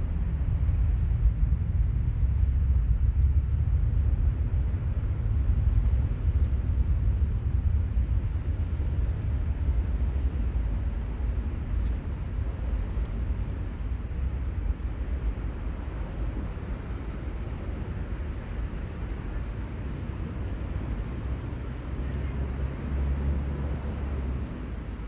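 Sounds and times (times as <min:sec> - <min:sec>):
deep seaside rumble: 0:00.0 - 0:25.0.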